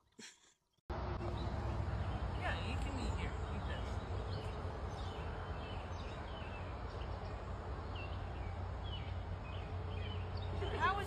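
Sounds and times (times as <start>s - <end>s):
small birds chirping: 1.1s - 11.0s.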